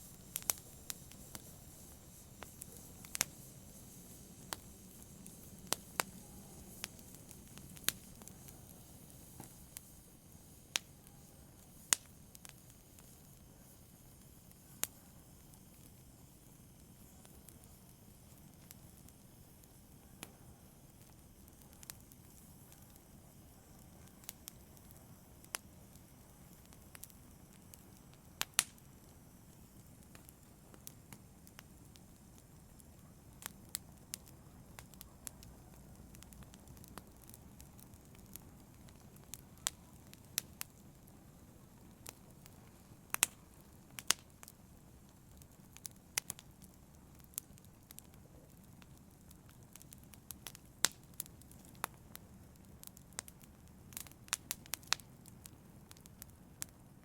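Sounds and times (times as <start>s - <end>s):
hiss of flame: 0.0s - 57.0s
wood fire crackling: 0.0s - 57.0s.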